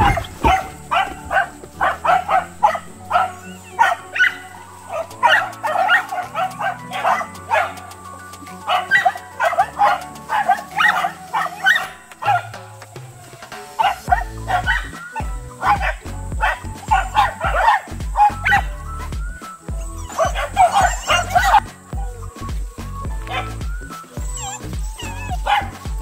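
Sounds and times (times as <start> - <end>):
dogs barking: 0.0 - 22.2, 23.1 - 26.0
background music: 0.0 - 26.0.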